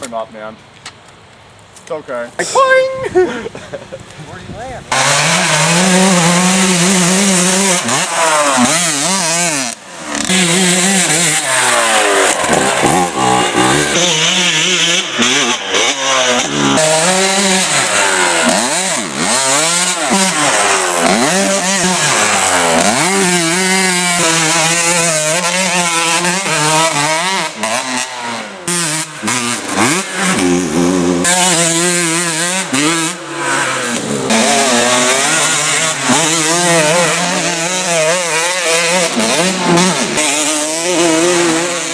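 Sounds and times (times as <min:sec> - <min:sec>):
dirt bike engine revving: 0:04.8 - 0:41.9.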